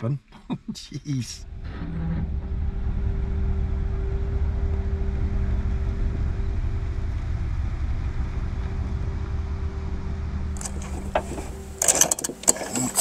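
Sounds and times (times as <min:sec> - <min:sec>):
pickup truck engine rumbling: 0:01.2 - 0:13.0.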